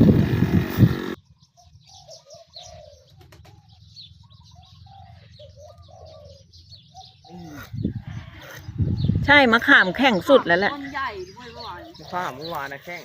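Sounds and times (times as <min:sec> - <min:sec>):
small birds chirping: 0:00.1 - 0:13.0
doves cooing: 0:02.0 - 0:13.0.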